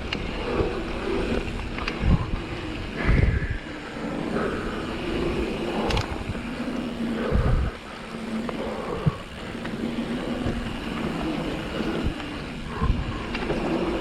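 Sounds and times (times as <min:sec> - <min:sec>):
tyre and wind noise: 0:00.0 - 0:14.0.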